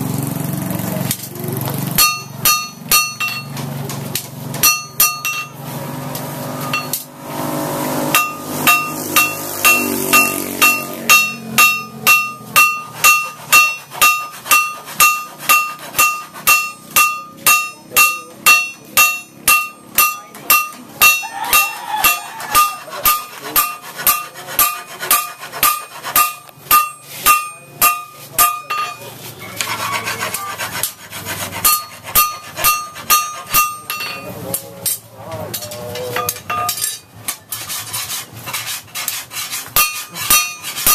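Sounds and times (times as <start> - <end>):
hammer striking blade on anvil: 1.9 - 5.6, 6.2 - 7.1, 7.8 - 40.9
rough scraping noise: 4.8 - 40.9.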